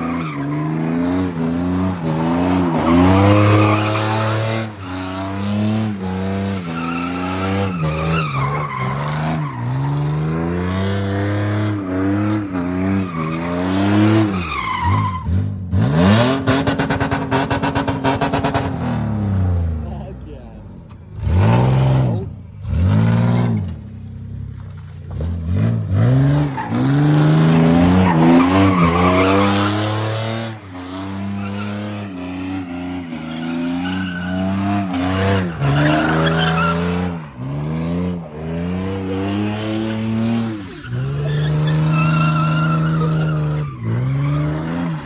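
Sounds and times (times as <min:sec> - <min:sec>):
tyres squealing and skidding: 0:00.0 - 0:18.8, 0:25.2 - 0:45.0.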